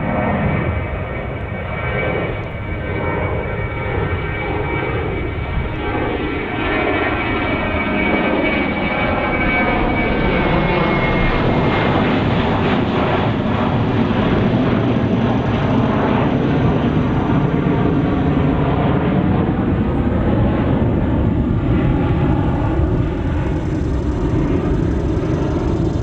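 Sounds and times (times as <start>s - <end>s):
high engine whine: 0.0s - 26.0s
jet engines roaring at takeoff: 0.0s - 26.0s.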